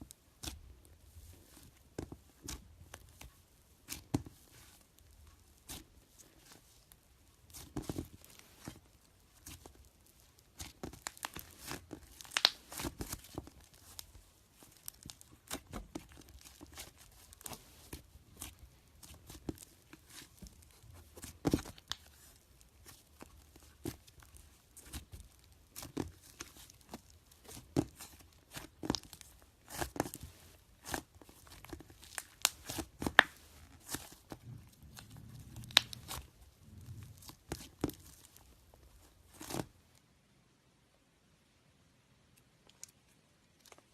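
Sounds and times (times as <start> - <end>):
slime crackling and popping: 3.8 - 39.8.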